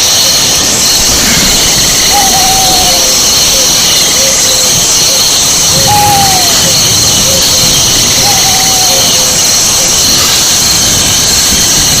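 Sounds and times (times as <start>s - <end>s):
chorus of insects: 0.0s - 12.0s
bird whistling: 0.6s - 10.4s.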